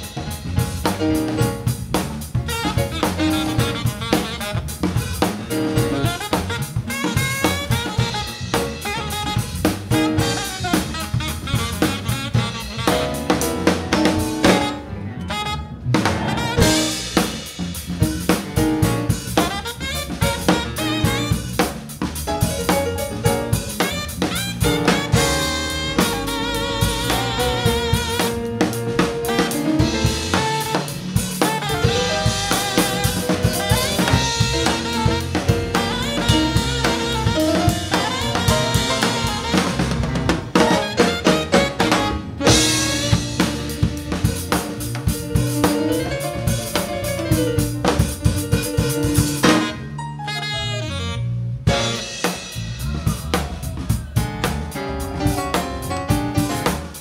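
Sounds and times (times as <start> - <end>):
drum kit funk groove: 0.0 - 51.0, 51.6 - 57.0
bass line: 0.0 - 57.0
saxophone melody: 2.4 - 17.6, 19.0 - 52.7, 53.8 - 57.0.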